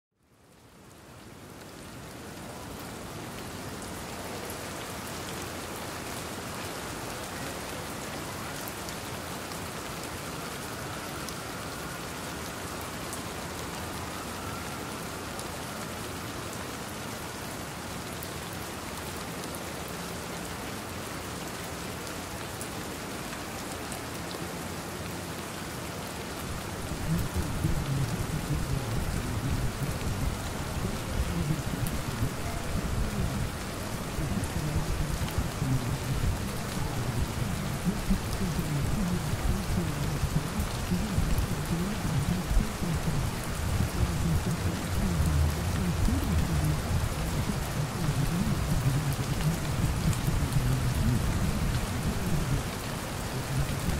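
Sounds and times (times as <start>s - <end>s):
rain pattering: 0.2s - 53.9s.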